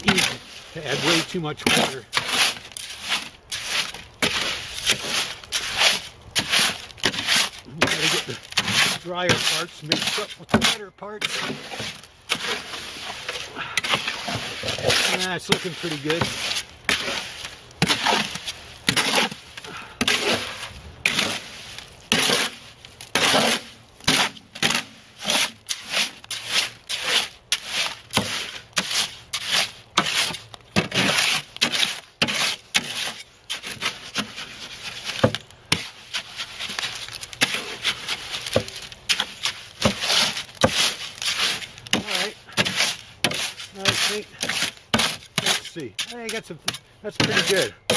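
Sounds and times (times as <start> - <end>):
hoe scraping wet concrete: 0.0 - 47.9.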